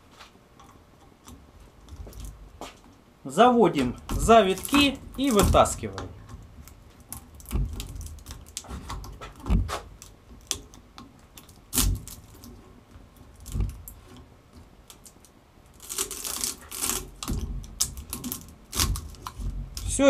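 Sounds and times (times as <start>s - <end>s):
wire scraping and rustling: 0.0s - 3.0s, 3.6s - 20.0s.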